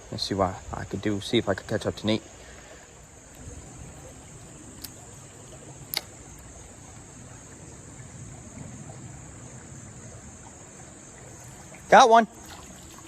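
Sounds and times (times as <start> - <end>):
insects chirping chorus: 0.0 - 13.0
outdoor background noise: 0.0 - 13.0.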